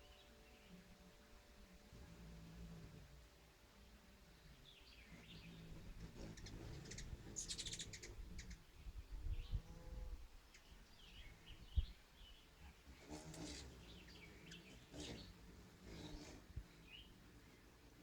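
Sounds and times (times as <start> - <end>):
bird chirping: 0.0 - 1.2, 3.8 - 17.7.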